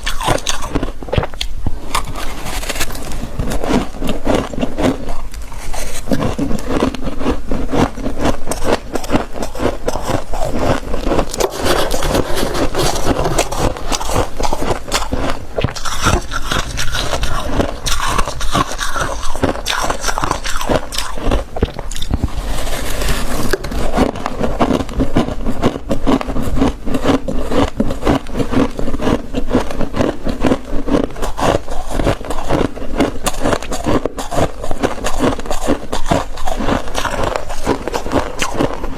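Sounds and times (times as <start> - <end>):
frost being scraped crunching: 0.0 - 38.9.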